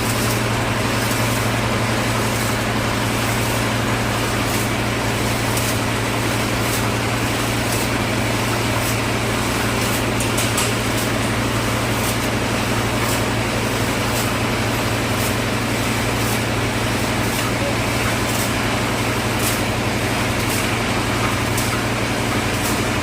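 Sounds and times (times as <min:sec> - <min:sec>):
concrete mixer engine hum: 0:00.0 - 0:23.0.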